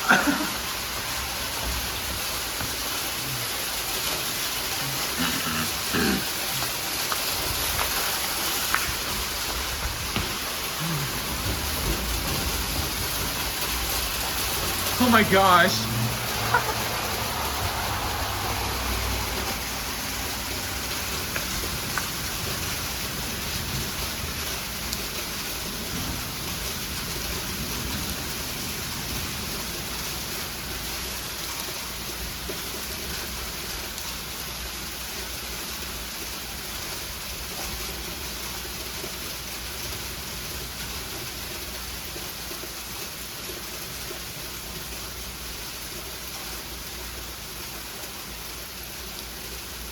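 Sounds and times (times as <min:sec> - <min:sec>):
sleet and freezing rain falling: 0:00.0 - 0:49.9.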